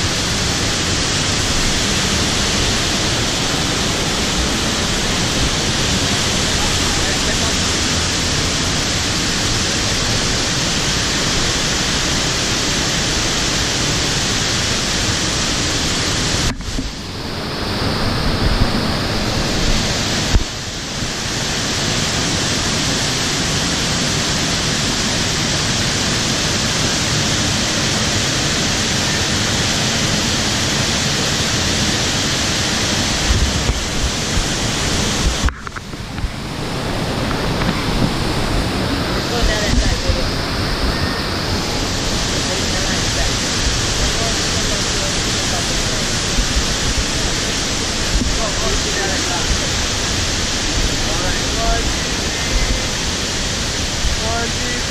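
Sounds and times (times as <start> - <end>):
fast-flowing stream: 0.0 - 54.9
waterfall rushing: 0.0 - 54.9.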